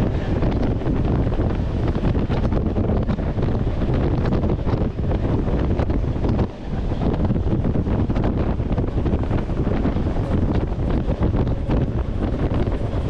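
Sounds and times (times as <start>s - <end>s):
train carriage rumbling on track: 0.0s - 13.0s
wind buffeting microphone: 0.0s - 13.0s.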